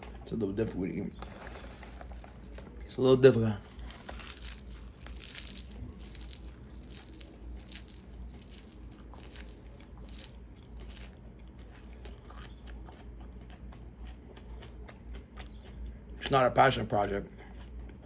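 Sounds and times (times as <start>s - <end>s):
person chewing crunchy leaves: 1.2s - 16.3s, 17.3s - 18.0s.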